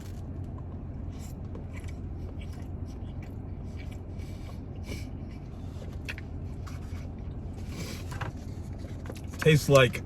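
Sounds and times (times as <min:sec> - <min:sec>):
person chewing food: 0:00.0 - 0:09.4
steady low rumble: 0:00.0 - 0:10.0.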